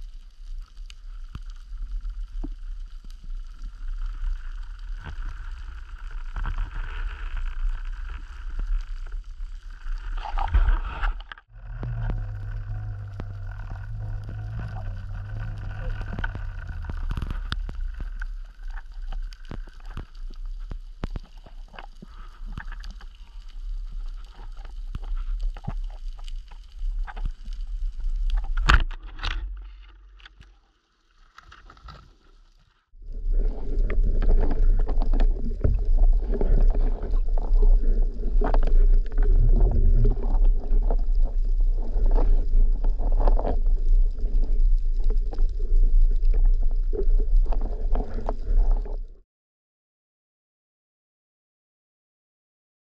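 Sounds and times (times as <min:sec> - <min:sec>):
muffled underwater rumble: 0:00.0 - 0:30.6, 0:33.0 - 0:49.2.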